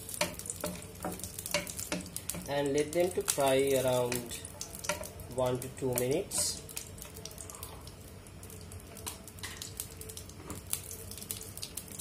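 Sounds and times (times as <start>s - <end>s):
garlic sizzling in oil: 0.0s - 12.0s.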